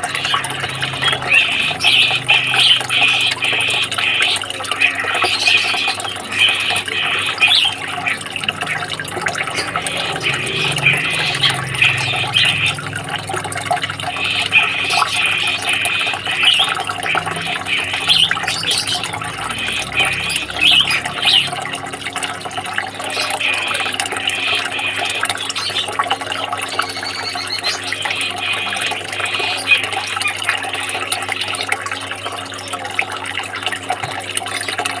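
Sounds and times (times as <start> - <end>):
water trickling and splashing: 0.0 - 35.0.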